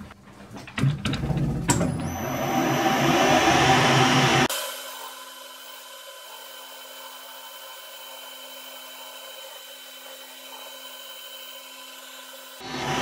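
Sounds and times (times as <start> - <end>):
metal lathe running: 2.1 - 13.0.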